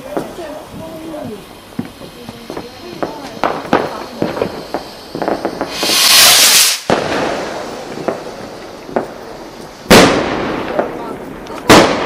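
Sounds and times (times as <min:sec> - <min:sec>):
firework bangs: 0:00.0 - 0:12.0
firework hissing rush: 0:00.0 - 0:12.0.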